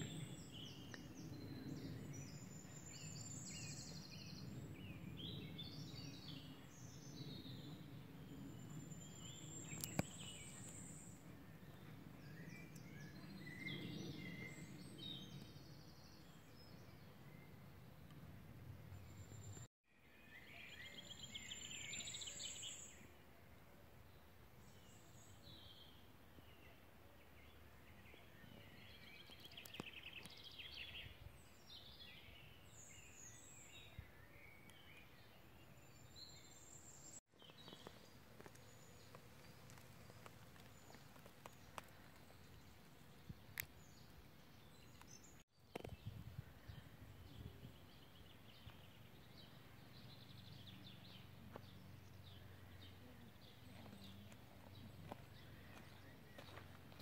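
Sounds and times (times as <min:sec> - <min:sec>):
small birds chirping and trilling: 0:00.0 - 0:17.6, 0:24.1 - 0:57.0.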